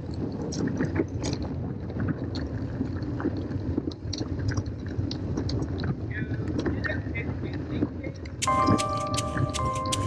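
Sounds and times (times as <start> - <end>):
bike tyres rumbling on dirt trail: 0.0 - 8.4
gravel and bike rattles: 0.0 - 8.4
wind buffeting microphone: 0.0 - 8.4.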